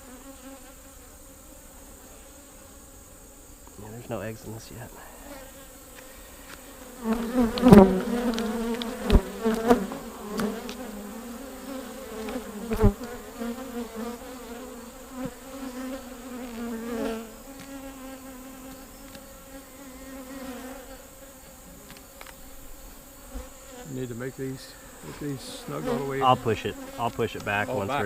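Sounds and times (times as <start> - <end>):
honeybees buzzing: 0.0 - 28.0.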